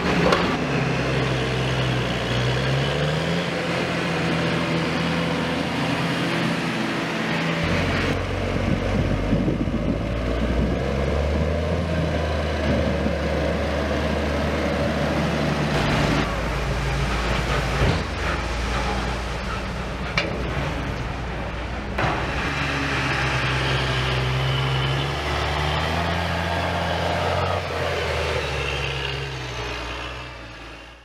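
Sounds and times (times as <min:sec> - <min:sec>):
tractor diesel engine droning: 0:00.0 - 0:31.0.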